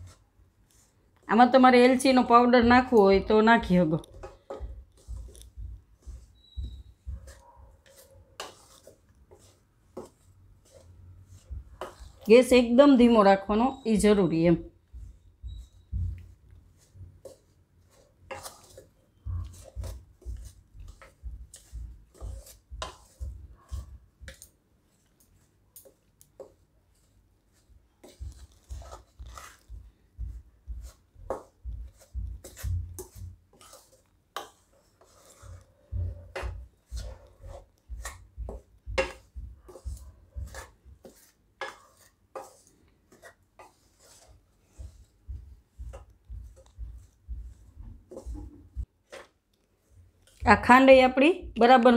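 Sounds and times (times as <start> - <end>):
metal spatula scraping a pan: 4.1 - 14.3, 15.0 - 29.8, 30.7 - 50.6.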